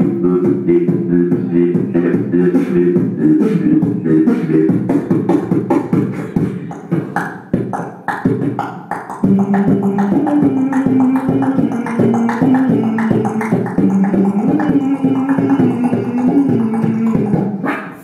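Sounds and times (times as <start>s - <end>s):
hummed bass line: 0.0s - 6.1s, 9.2s - 17.5s
beatboxing drum hits: 0.0s - 18.0s.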